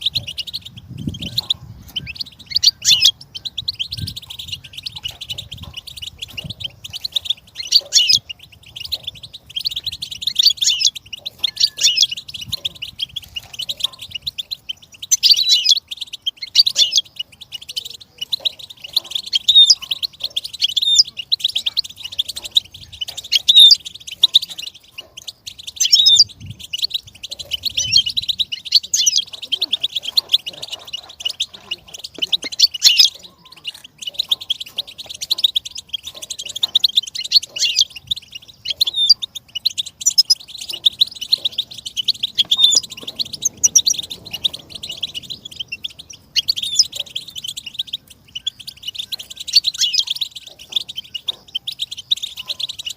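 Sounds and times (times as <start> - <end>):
bird singing twittering song: 0.0 - 52.9.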